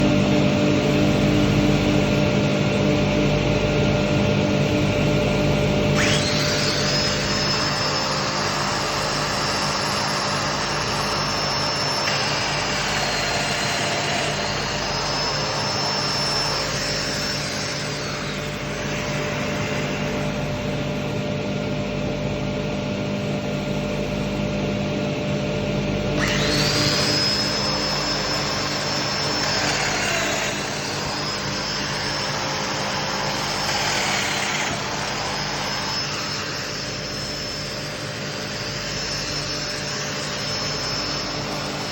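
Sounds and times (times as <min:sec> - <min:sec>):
power tool high whine: 0:00.0 - 0:41.9
steady low drone: 0:00.0 - 0:41.9.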